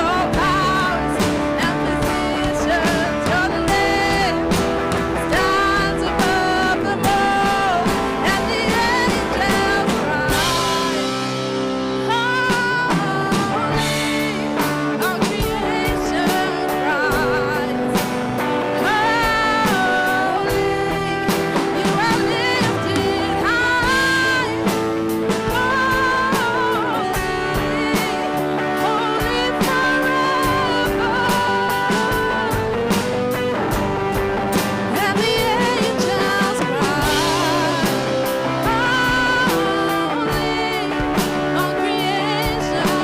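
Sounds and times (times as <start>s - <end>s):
band chords: 0.0s - 43.0s
person singing with vibrato: 0.0s - 43.0s.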